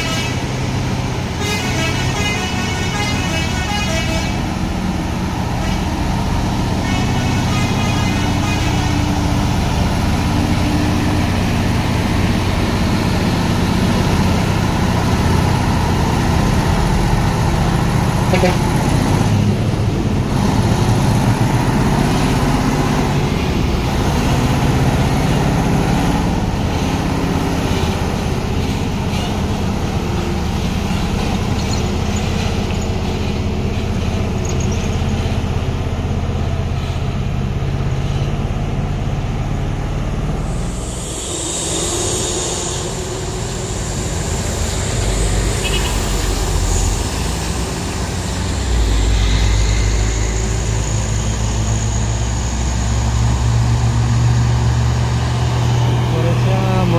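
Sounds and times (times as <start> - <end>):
diesel truck engines under load: 0.0 - 56.9.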